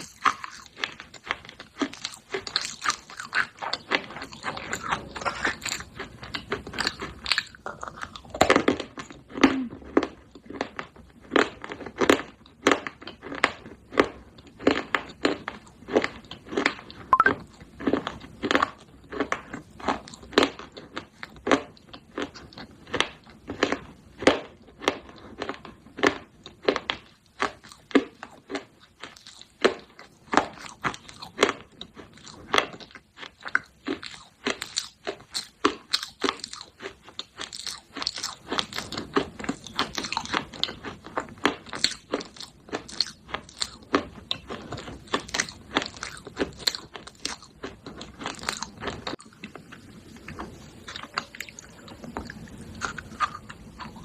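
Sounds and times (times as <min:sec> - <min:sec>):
gritty crunching and chewing: 0:00.0 - 0:54.0.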